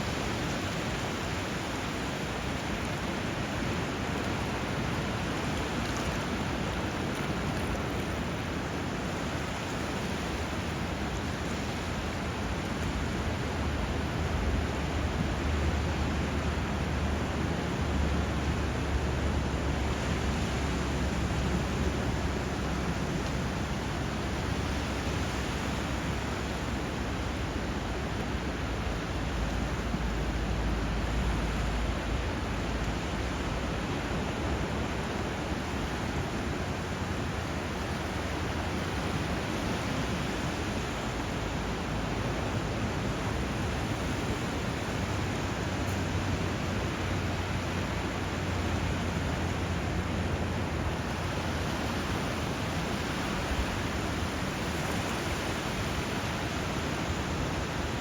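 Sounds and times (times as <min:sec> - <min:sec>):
flowing river water: 0:00.0 - 0:58.0
sea surf: 0:00.0 - 0:58.0.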